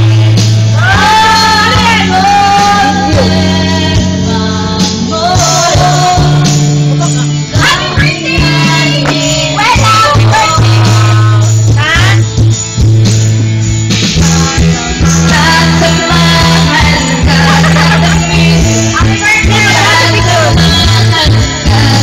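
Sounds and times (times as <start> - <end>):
woman singing into a microphone: 0.0 - 12.1, 14.4 - 22.0
loud backing music: 0.0 - 22.0.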